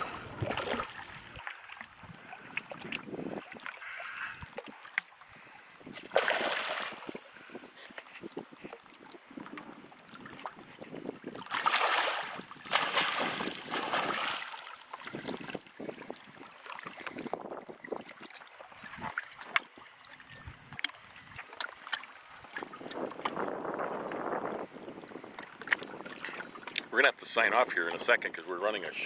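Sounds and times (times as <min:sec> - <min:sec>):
water lapping and splashing: 0:00.0 - 0:28.0.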